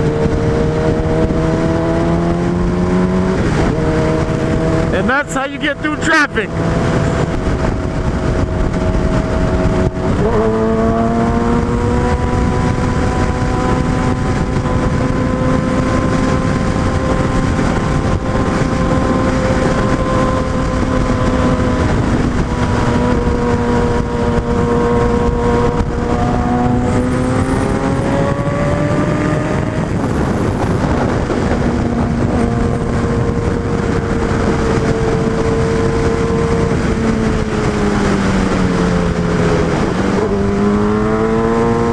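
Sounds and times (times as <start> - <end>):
motorcycle engine running: 0.0 - 41.9
steady rushing noise: 0.0 - 41.9.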